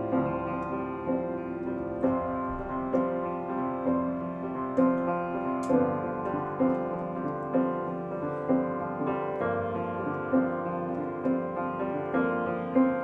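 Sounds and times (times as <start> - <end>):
jazz piano through speaker: 0.0 - 13.0.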